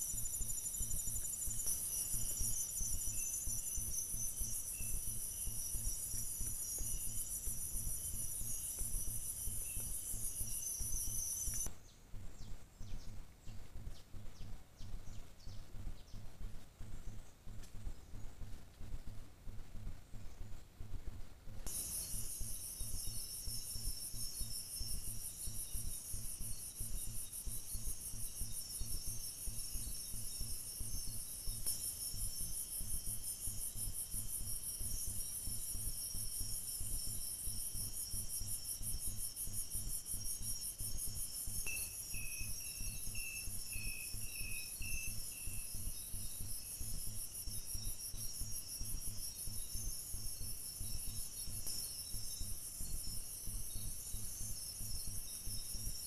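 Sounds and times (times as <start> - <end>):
insects high-pitched pulsing trill: 0.0 - 11.7, 21.6 - 56.0
lower insect chirps: 0.0 - 19.1, 21.6 - 56.0.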